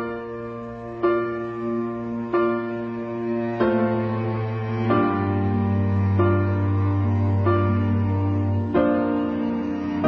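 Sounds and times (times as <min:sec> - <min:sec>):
slow gentle keyboard music: 0:00.0 - 0:10.0.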